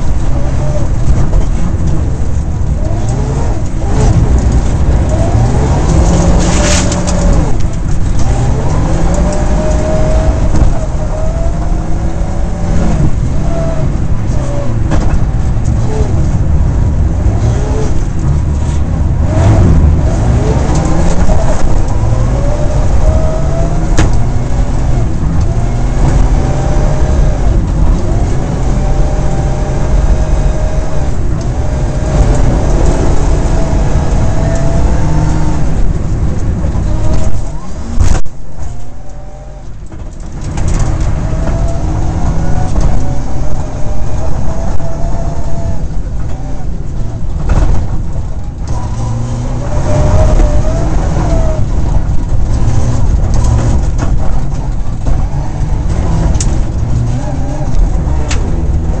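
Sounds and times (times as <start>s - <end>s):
rally car engine revving hard: 0.0s - 59.0s.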